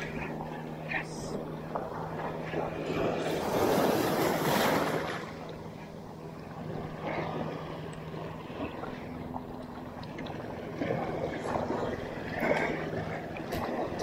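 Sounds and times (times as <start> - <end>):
sea water washing around rocks: 0.0 - 5.6, 6.5 - 14.0.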